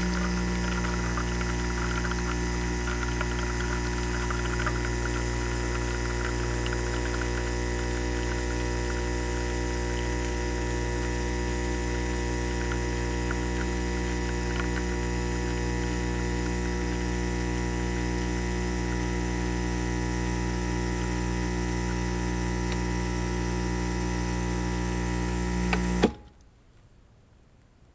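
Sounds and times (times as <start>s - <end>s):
espresso machine pump humming: 0.0s - 26.2s.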